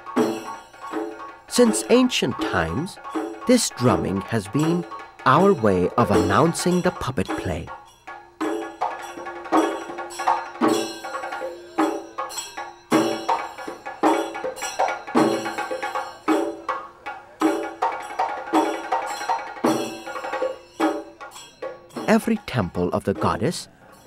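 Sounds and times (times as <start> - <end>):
temple drums in fast rhythm: 0.0 - 23.6.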